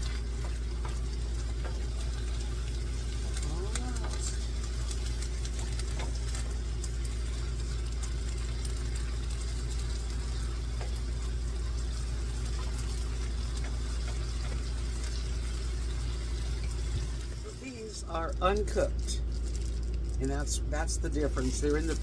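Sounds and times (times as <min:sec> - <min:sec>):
low mechanical hum: 0:00.0 - 0:22.0
meat cooking in a frying pan: 0:00.0 - 0:22.0.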